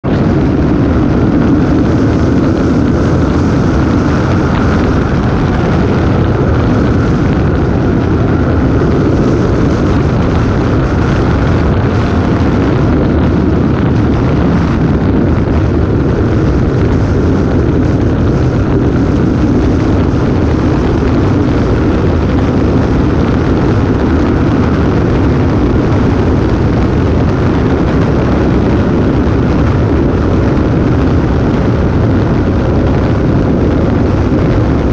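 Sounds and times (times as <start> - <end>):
motorcycle engine cruising: 0.0 - 34.9
wind rushing over microphone: 0.0 - 34.9.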